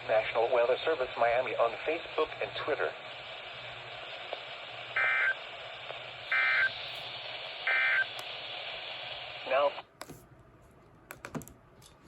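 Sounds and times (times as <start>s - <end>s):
radio static hiss: 0.0s - 9.9s.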